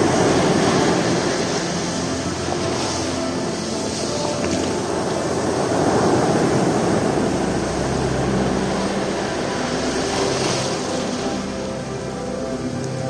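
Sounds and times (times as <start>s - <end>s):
sea surf washing up beach: 0.0s - 13.0s.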